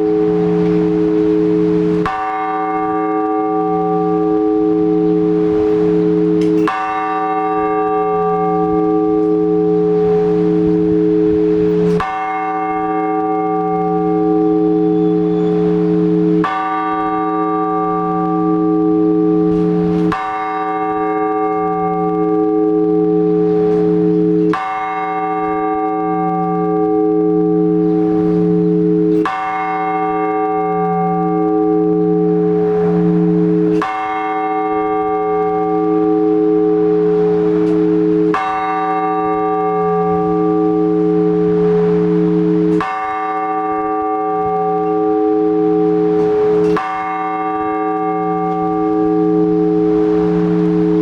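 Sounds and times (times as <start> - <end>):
large church bell tolling: 0.0 - 51.0.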